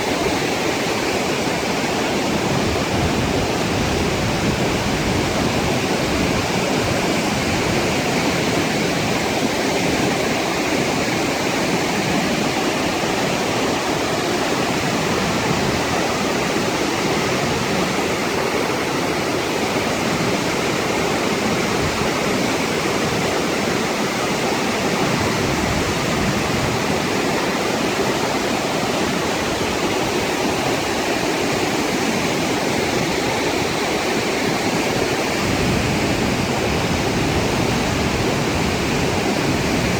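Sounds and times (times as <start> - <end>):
flood water rushing over waterfall: 0.0 - 39.9.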